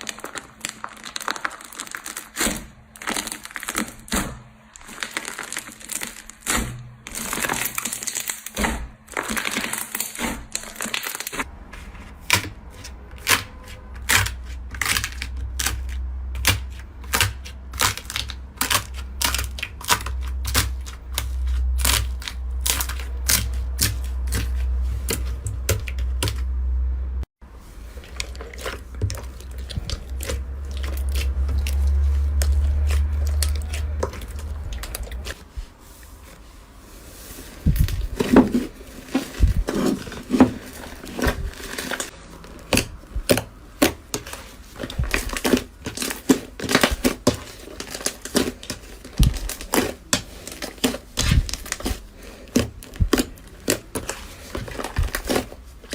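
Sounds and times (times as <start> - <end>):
slime squelching and popping: 0.0 - 11.5, 12.1 - 26.5, 27.9 - 35.4, 37.7 - 55.9.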